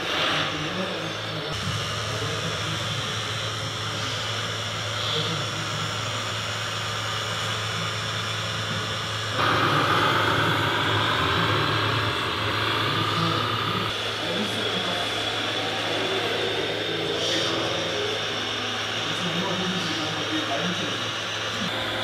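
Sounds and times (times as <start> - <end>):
toy truck motor hum: 1.6 - 22.0.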